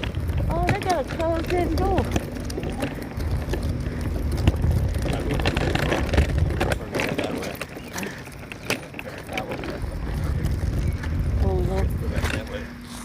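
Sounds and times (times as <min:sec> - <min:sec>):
wind rumble on microphone: 0:00.0 - 0:08.4, 0:09.0 - 0:12.8.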